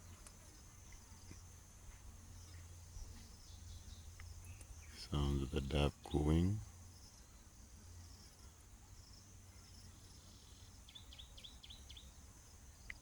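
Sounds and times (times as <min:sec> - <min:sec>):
bird chirping: 0:00.0 - 0:13.0
insects droning: 0:00.0 - 0:13.0.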